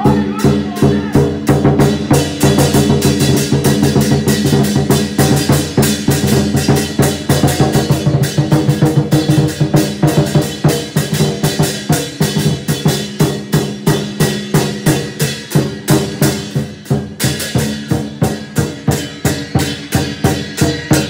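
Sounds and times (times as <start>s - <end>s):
large drum fast rhythm: 0.0s - 21.0s.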